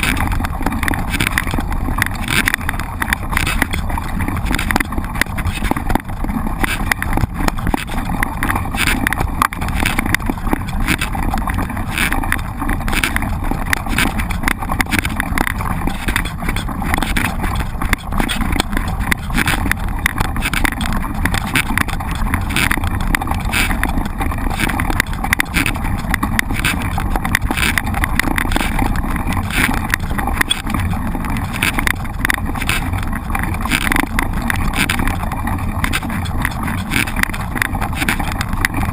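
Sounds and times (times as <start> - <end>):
bike rattling and knocking: 0.0 - 38.9.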